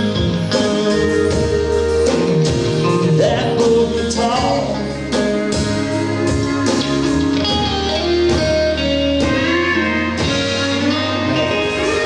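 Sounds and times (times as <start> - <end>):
bass and drums: 0.0 - 12.0
electric guitar playing: 0.0 - 12.0.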